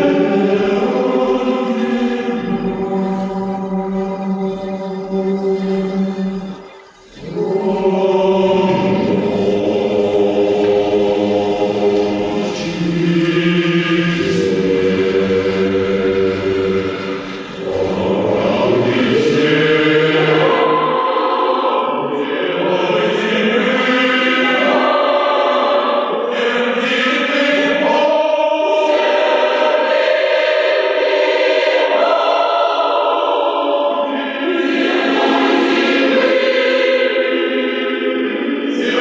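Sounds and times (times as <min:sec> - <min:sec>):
choir singing sustained chords: 0:00.0 - 0:39.0.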